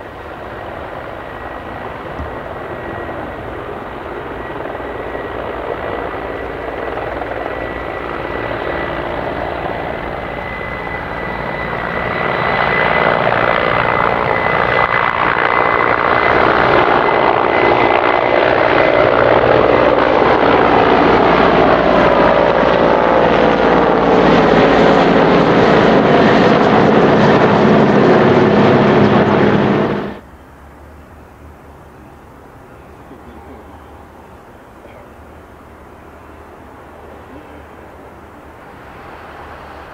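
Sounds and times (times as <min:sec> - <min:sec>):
helicopters flying past: 0:00.0 - 0:30.2, 0:31.4 - 0:39.9.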